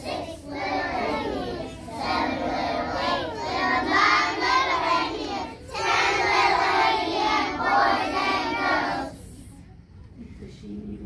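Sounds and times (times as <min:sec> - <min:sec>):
children singing together: 0:00.0 - 0:09.5.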